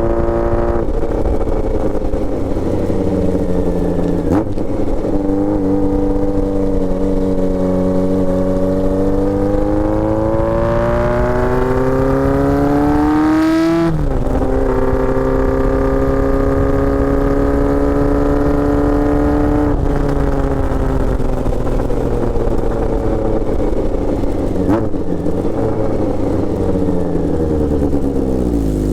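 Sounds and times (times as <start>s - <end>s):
motorcycle engine revving: 0.0s - 28.9s
wind rumble: 0.0s - 28.9s.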